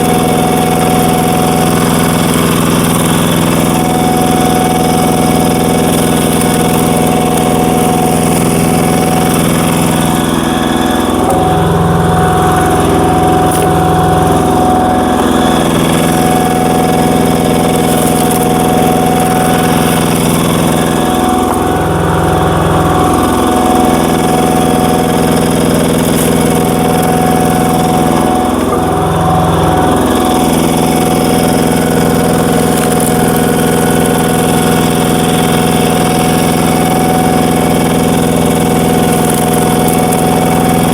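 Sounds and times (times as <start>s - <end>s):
diesel engine lugging under load: 0.0s - 40.9s
screw log splitter boring wood: 0.0s - 40.9s.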